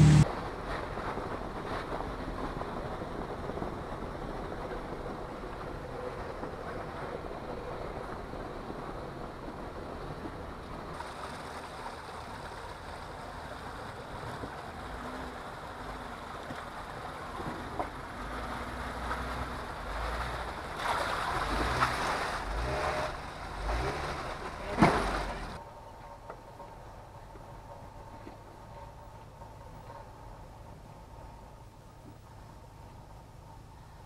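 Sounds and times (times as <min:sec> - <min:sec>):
low engine rumble: 0:00.0 - 0:34.0.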